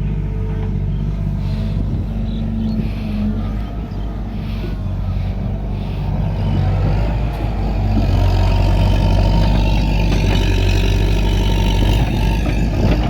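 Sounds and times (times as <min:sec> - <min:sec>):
excavator engine droning: 0:00.0 - 0:13.0.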